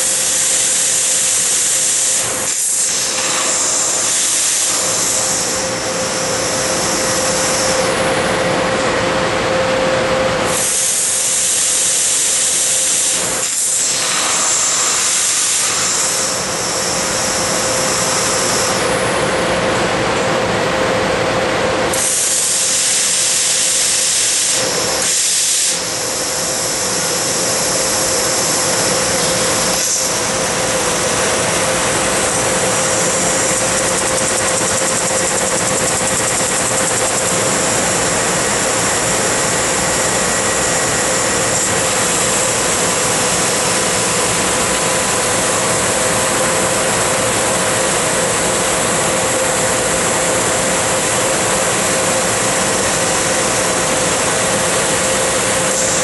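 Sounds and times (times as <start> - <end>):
laser cutter hissing: 0.0 - 9.0, 10.2 - 19.4, 21.9 - 56.0
steady machine hum: 0.0 - 56.0.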